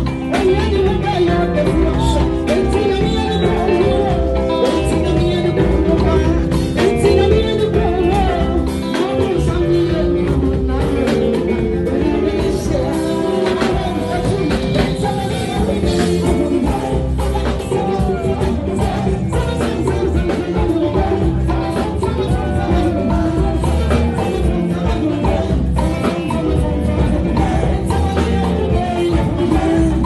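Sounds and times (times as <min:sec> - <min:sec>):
live band playing: 0:00.0 - 0:30.0
woman singing into a microphone: 0:00.0 - 0:30.0.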